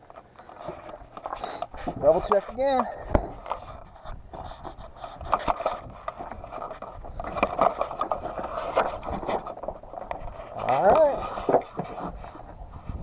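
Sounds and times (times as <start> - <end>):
clicks knocks and scraping: 0.0 - 13.0.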